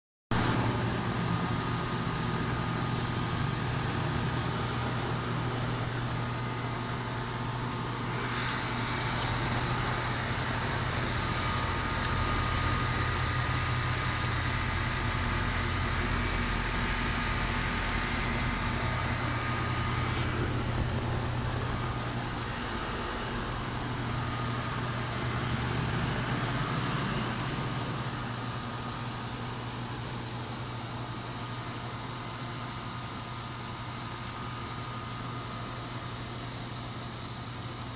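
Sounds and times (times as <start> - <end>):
outdoor fan rushing air: 0.3 - 37.9
air conditioner compressor hum: 0.4 - 37.9
faint steady whine: 0.4 - 37.9.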